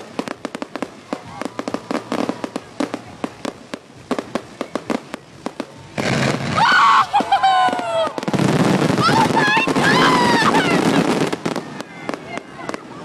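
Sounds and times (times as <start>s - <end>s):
fireworks crackling pops: 0.0s - 13.0s
fireworks rushing hiss: 0.0s - 13.0s.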